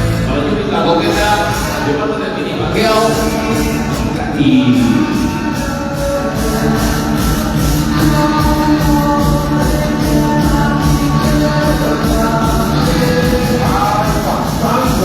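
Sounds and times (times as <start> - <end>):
loud rock music: 0.0 - 15.0.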